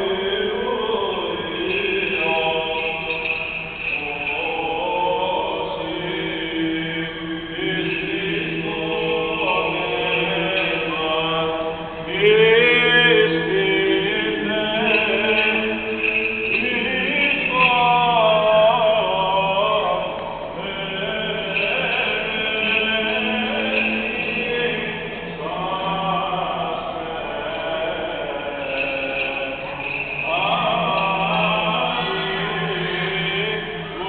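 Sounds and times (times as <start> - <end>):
voices chanting: 0.0 - 34.0.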